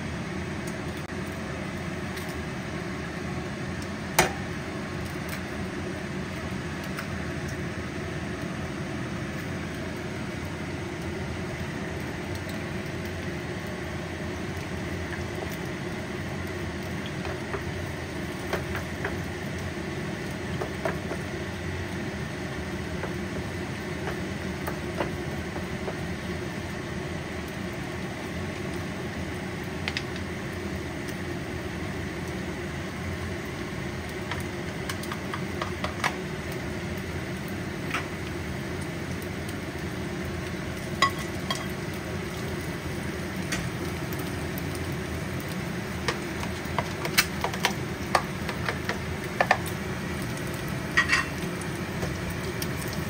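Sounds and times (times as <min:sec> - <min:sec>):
eggs sizzling in oil: 0:00.0 - 0:53.0
steady low hum: 0:00.0 - 0:53.0.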